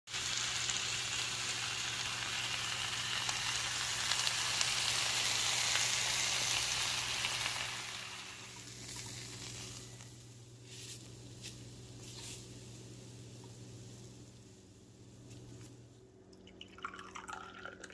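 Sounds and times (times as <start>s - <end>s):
meat frying in hot oil: 0.1s - 14.7s.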